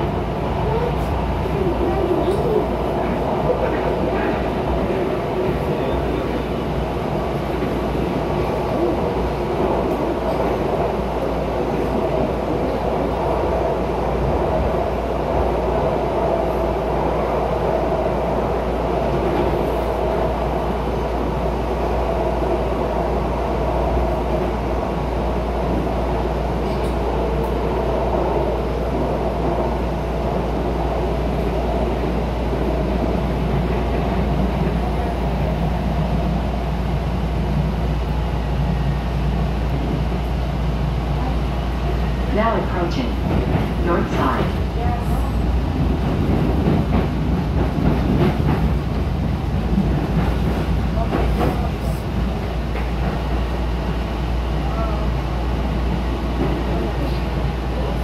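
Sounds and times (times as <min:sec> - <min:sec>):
train running noise inside railcar: 0:00.0 - 0:58.0.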